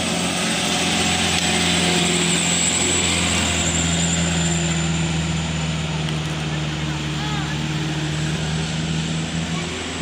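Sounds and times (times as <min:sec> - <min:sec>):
road noise: 0:00.0 - 0:10.0
vehicle engine humming: 0:00.0 - 0:10.0.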